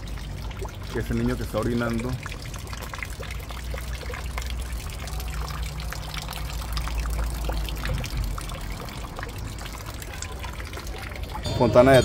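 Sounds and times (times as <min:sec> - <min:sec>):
water stream splashing into basin: 0:00.0 - 0:12.0.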